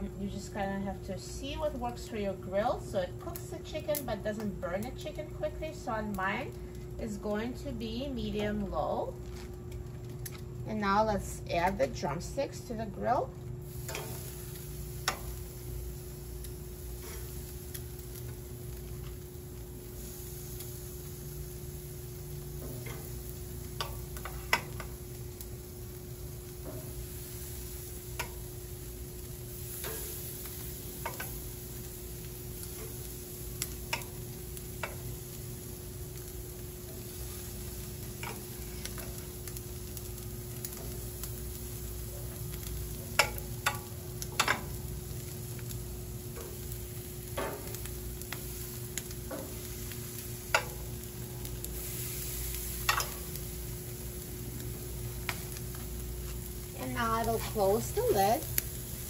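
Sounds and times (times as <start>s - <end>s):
chicken sizzling on a grill: 0.0s - 59.0s.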